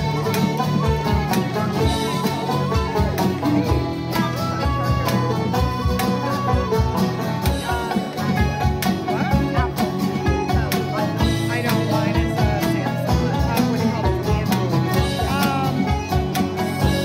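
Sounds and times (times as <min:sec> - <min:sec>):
drum kit beat: 0:00.0 - 0:17.0
electric guitars: 0:00.0 - 0:17.0.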